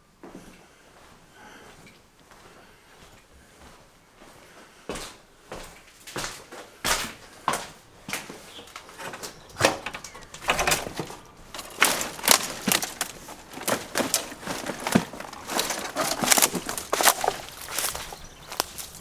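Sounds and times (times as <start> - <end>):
footsteps with crunches and knocks: 0.0 - 19.0.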